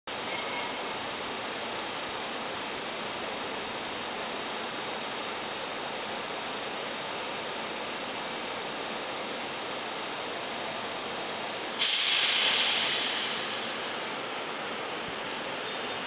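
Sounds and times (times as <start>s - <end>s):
electric train hissing at platform: 0.2s - 16.0s.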